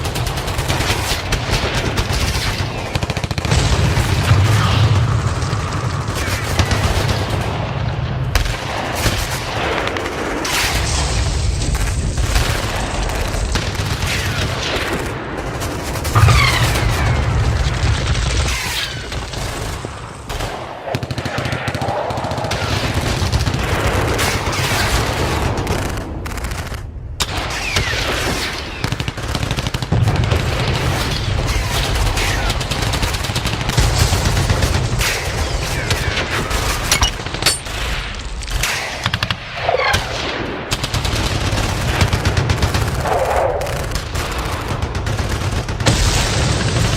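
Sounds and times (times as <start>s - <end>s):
machine-gun and rifle fire: 0.0s - 46.9s.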